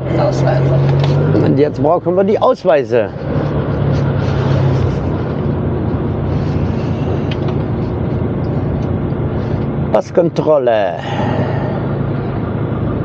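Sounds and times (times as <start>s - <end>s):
low engine hum: 0.0s - 13.0s
road and tyre noise: 0.0s - 13.0s.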